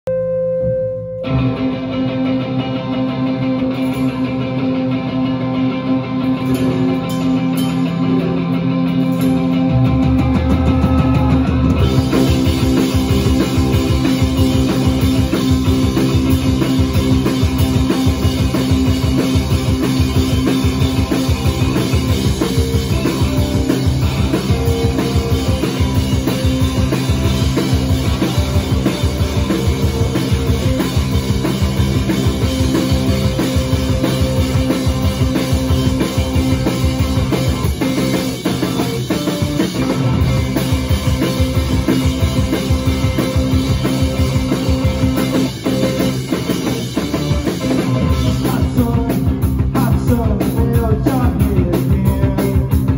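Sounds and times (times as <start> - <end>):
bass guitar: 0.1 - 52.9
electric guitar: 0.1 - 52.9
drum kit beat: 3.1 - 52.9.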